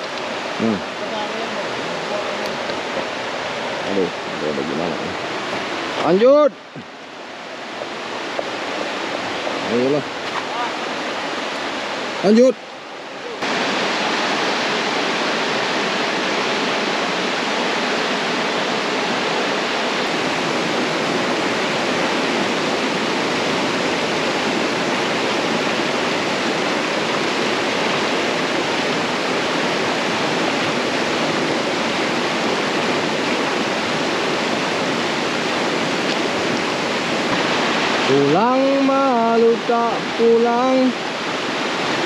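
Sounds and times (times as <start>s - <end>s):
river rushing over rocks: 0.0s - 42.0s.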